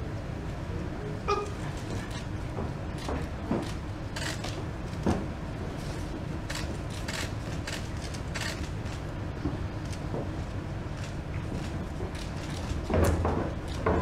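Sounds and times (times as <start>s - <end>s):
low hall rumble: 0.0s - 14.0s.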